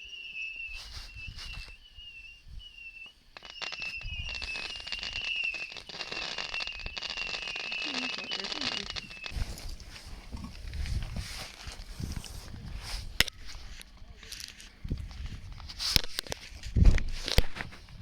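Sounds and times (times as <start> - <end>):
firework crackling pops: 0.0 - 18.0
firework whistling: 0.0 - 18.0.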